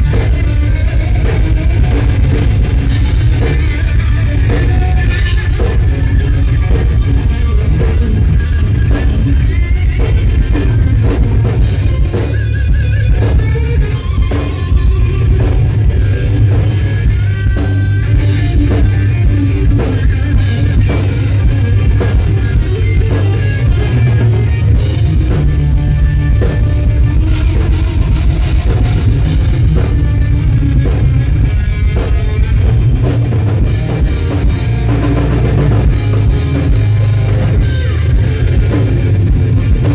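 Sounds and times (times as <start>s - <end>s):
bass guitar: 0.0s - 39.9s
electric guitar lead: 0.0s - 39.9s
pounding drum kit: 0.0s - 39.9s.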